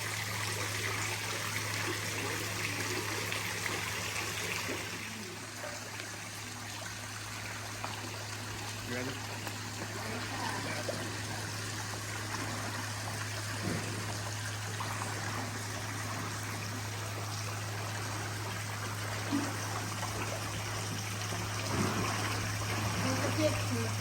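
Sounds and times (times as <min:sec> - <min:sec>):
low steady hum: 0:00.0 - 0:24.0
water running and trickling: 0:00.0 - 0:24.0.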